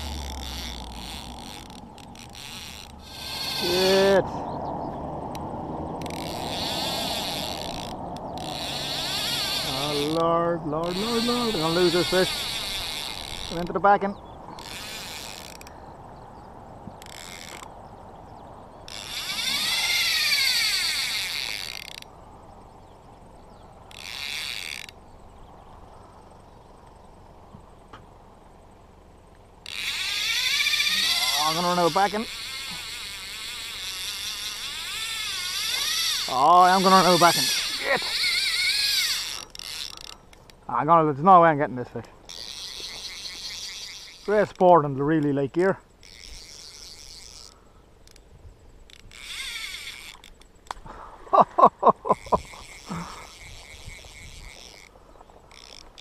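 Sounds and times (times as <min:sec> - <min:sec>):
fishing reel drag whirring: 0:00.0 - 0:16.0, 0:16.9 - 0:27.1, 0:28.6 - 0:40.8, 0:41.8 - 0:56.0.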